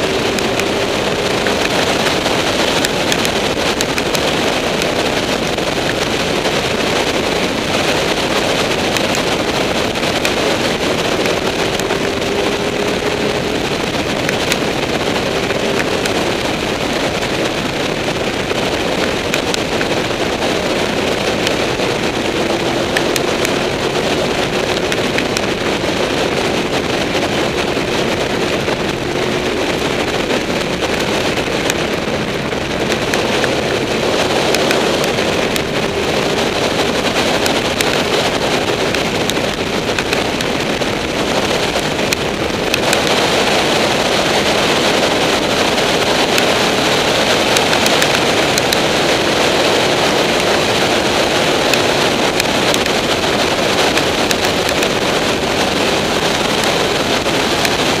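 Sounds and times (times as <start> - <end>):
heavy wind rush on microphone: 0.0 - 58.0
motorcycle engine drone: 0.0 - 58.0.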